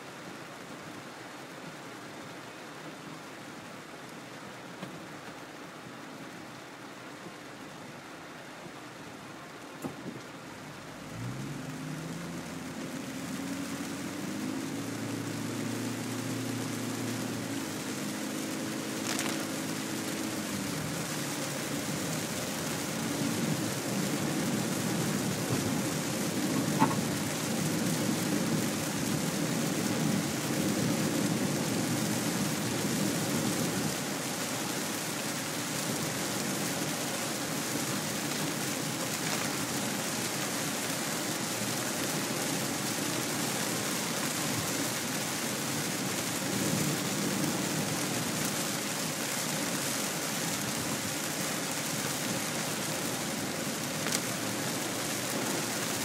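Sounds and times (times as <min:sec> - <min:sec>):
heavy rain on car roof: 0:00.0 - 0:56.0
tyres hissing on wet road: 0:00.0 - 0:56.0.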